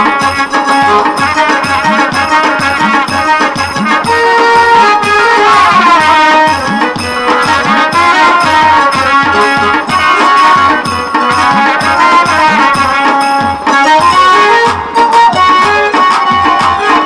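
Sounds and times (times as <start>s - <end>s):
fast drumbeat with sliding low strokes: 0.0s - 17.0s
reedy wind instrument melody: 0.0s - 17.0s.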